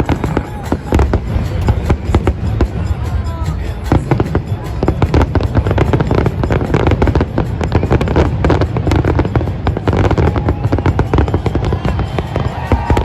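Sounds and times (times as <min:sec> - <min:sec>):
fireworks bangs and crackling: 0:00.0 - 0:13.0
low rumble of fireworks: 0:00.0 - 0:13.0.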